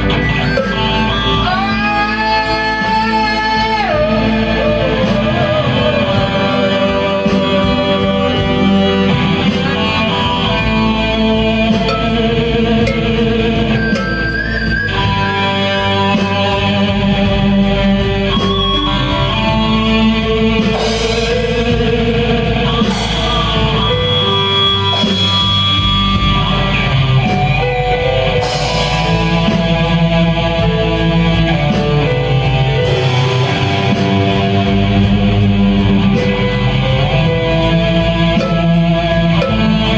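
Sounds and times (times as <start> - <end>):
blues-rock band playing live: 0.0 - 39.9
electric guitar: 0.0 - 39.9.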